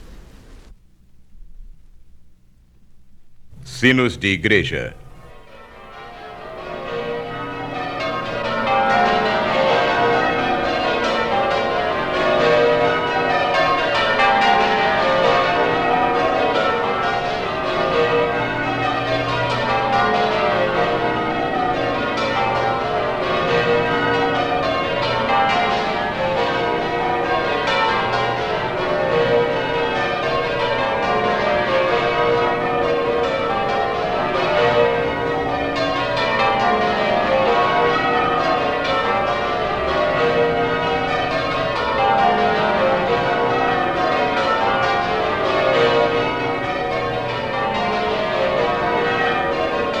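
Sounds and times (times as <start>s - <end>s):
church bells pealing: 5.7s - 50.0s.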